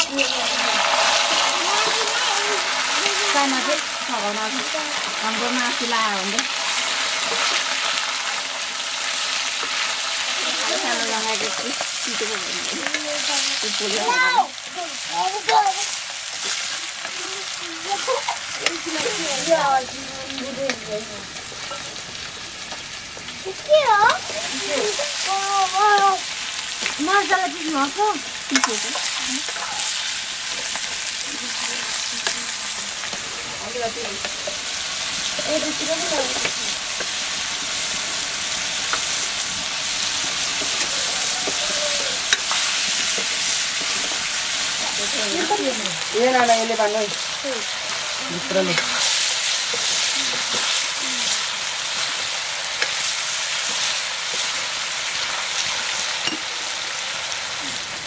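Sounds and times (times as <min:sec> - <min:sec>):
meat sizzling in a pan: 0:00.0 - 0:58.0.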